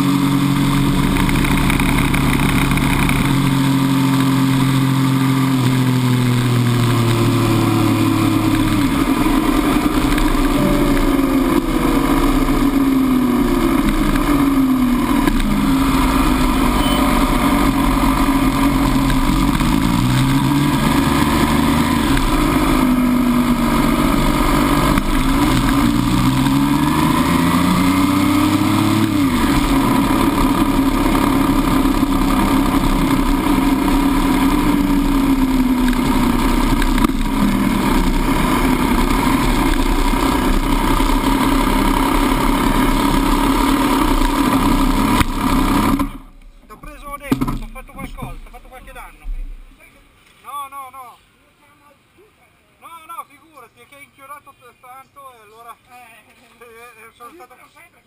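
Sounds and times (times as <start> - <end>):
motorcycle engine: 0.0 - 50.1.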